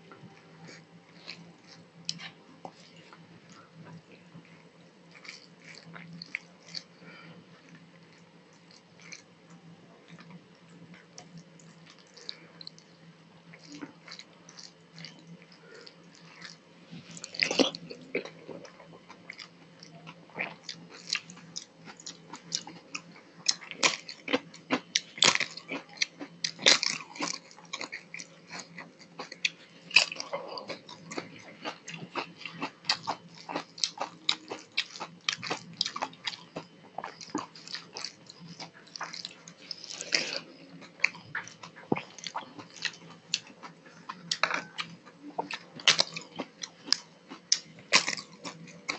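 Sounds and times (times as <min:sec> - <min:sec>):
soft eating noises: 0:00.0 - 0:48.9.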